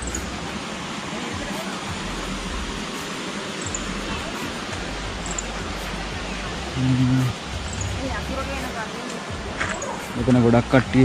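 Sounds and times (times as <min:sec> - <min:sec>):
water rushing in gorge: 0:00.0 - 0:11.0.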